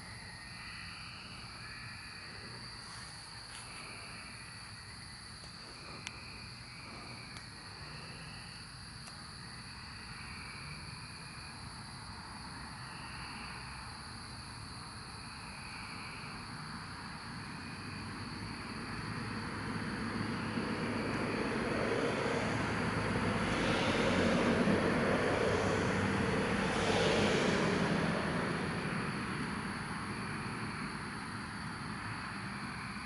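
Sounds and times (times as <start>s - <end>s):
cicadas calling: 0.0s - 33.0s.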